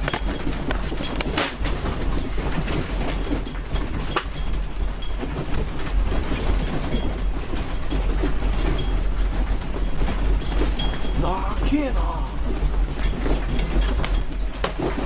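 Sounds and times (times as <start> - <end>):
objects rattling: 0.0 - 15.0.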